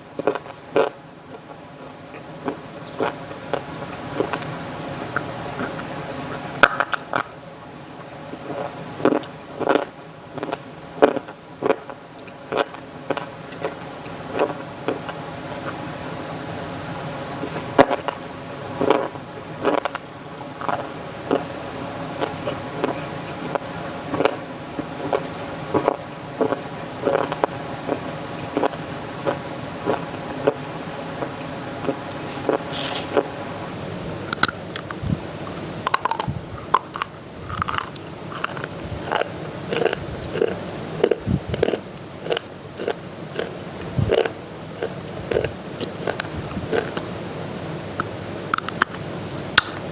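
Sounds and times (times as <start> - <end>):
background hum and hiss: 0.0 - 49.9
clay crunching while chewed: 0.2 - 1.5, 2.1 - 7.3, 8.5 - 15.9, 18.8 - 33.3, 35.9 - 47.2, 48.0 - 49.0.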